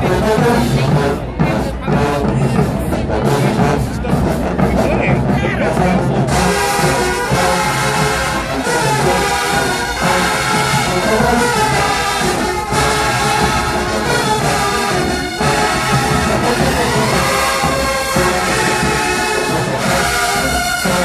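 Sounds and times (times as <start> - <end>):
drums: 0.0 - 21.0
marching band playing loudly: 0.0 - 21.0
trombones: 0.0 - 21.0.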